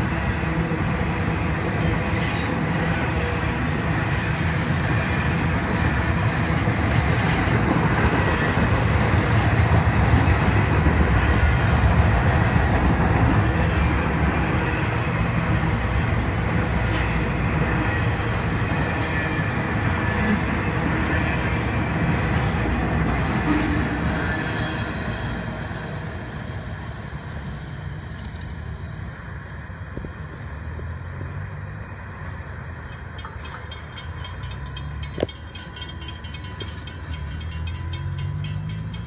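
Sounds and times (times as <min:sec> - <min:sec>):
freight train wheels rattling: 0:00.0 - 0:39.0.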